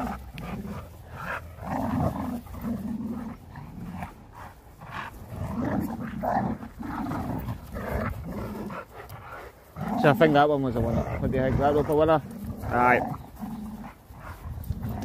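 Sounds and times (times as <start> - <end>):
dogs growling in play: 0.0 - 15.0.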